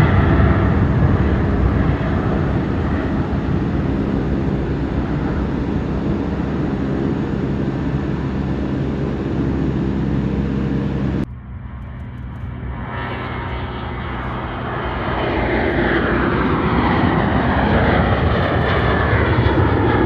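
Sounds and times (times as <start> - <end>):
passing jet airliner: 0.0 - 20.0.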